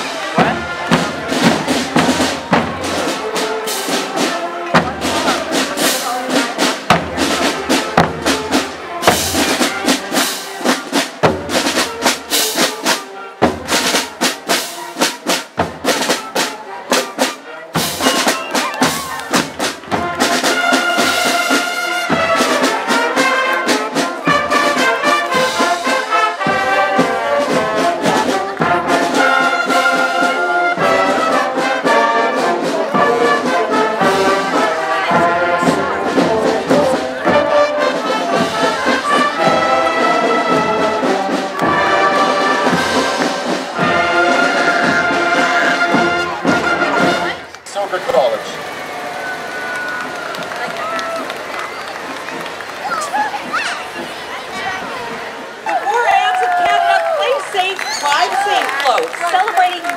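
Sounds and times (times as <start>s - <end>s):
trumpets and trombones melody: 0.0s - 50.6s
snare drums beat: 0.4s - 54.1s.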